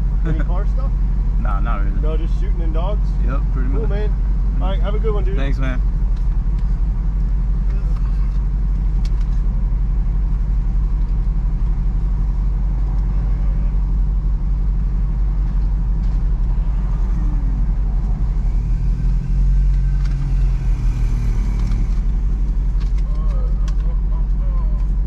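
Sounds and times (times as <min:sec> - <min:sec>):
engine idling rumble: 0:00.0 - 0:25.0.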